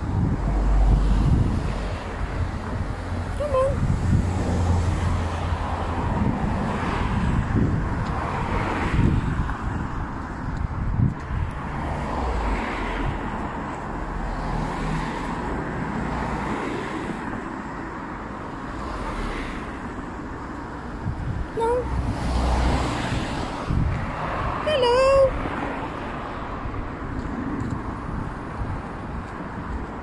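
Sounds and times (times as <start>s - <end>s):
cars passing: 0.0s - 30.0s
traffic rumble: 0.0s - 30.0s.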